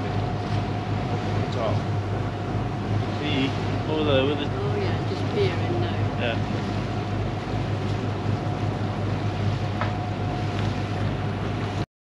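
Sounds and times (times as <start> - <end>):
boat engine droning: 0.0 - 11.9
water noise: 0.0 - 11.9
wind: 0.0 - 11.9.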